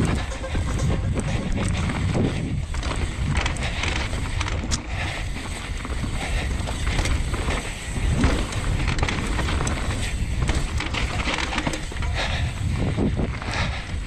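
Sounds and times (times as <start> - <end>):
tyres rolling on dirt: 0.0 - 13.9
bike clacks and rattles: 0.0 - 14.0
wind rumble on microphone: 0.0 - 14.0.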